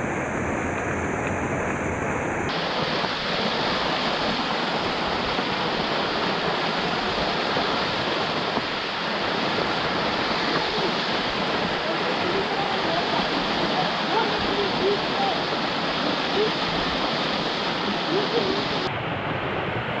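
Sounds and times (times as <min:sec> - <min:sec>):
waterfall splashing on camera: 0:02.5 - 0:18.9.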